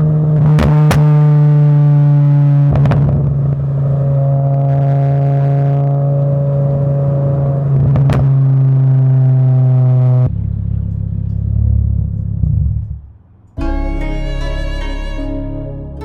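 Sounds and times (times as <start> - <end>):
car engine running: 0.3 - 16.0.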